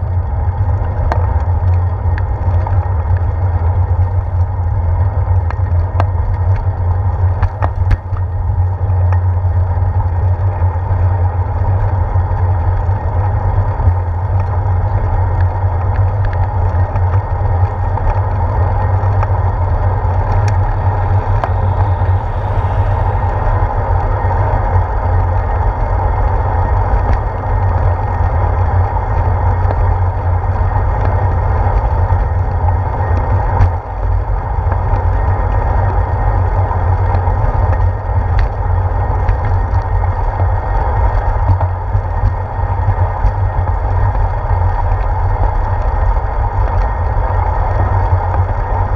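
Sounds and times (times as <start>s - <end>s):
wind and road rumble: 0.0s - 48.9s.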